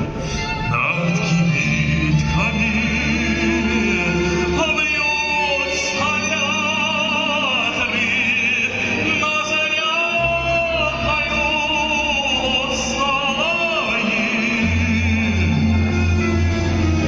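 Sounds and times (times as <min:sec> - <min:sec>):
man singing with vibrato: 0:00.4 - 0:17.0.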